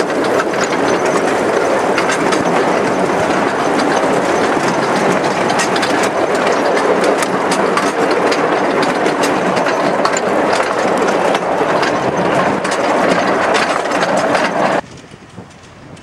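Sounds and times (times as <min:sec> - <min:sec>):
train running rumble: 0:00.0 - 0:16.0
wheels clicking and rattling: 0:00.0 - 0:16.0.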